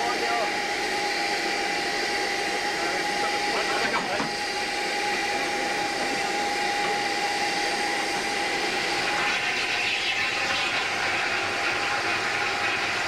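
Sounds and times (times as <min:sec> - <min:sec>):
steam hissing from locomotive: 0:00.0 - 0:13.0.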